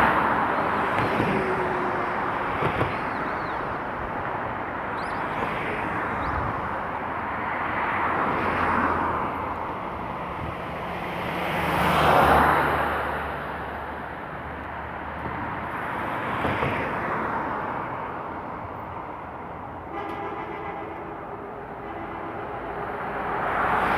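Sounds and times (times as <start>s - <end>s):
cars passing: 0.0s - 23.9s
road noise: 0.0s - 23.9s.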